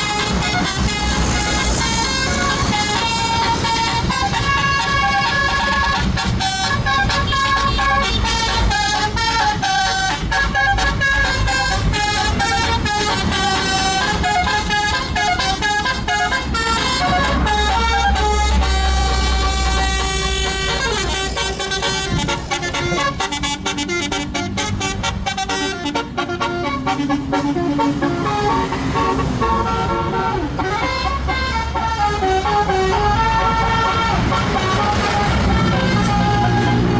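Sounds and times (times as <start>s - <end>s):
bus air horns playing melody: 0.0s - 36.9s.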